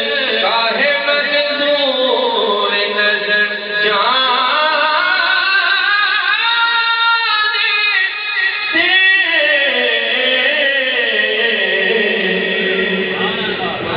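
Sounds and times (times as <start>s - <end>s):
man reciting devotional poem: 0.0s - 13.8s.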